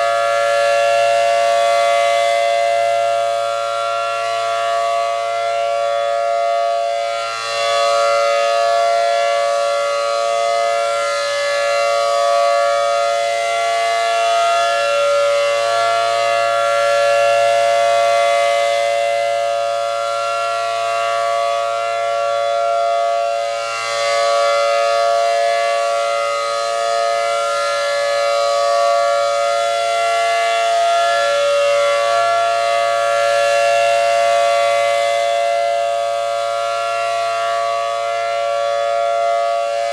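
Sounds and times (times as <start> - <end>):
rotating siren two-tone chord: 0.0 - 39.9.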